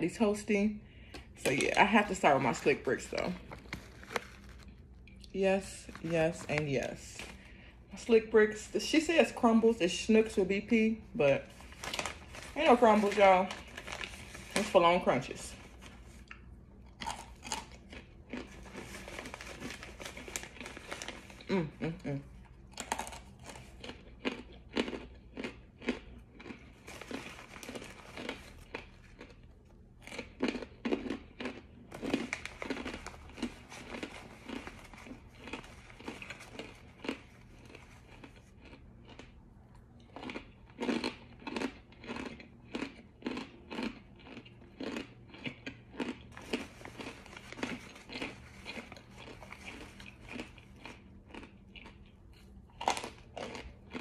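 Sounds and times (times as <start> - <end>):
crunching and chewing hard food: 0.0 - 54.0.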